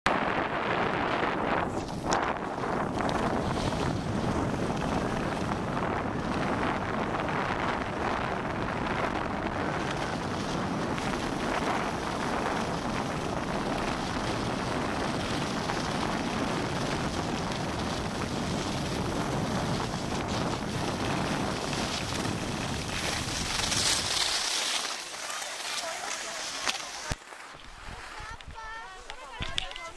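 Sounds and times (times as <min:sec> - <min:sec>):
wind buffeting microphone: 0:00.1 - 0:25.0, 0:25.7 - 0:29.9
skis sliding over snow: 0:00.2 - 0:29.9.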